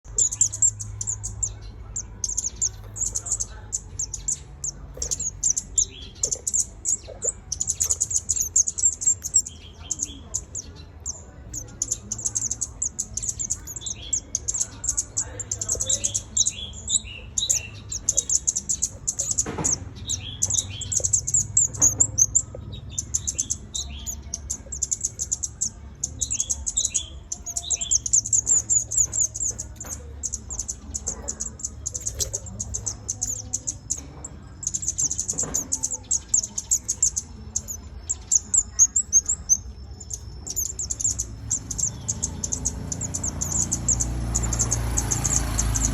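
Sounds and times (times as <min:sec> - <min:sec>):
high-pitched chattering trill: 0:02.3 - 0:45.9.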